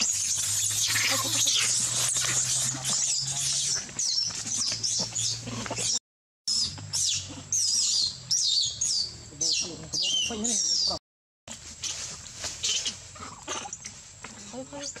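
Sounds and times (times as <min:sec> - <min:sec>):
animal chirps and squeals: 0:00.0 - 0:11.0, 0:11.8 - 0:14.0.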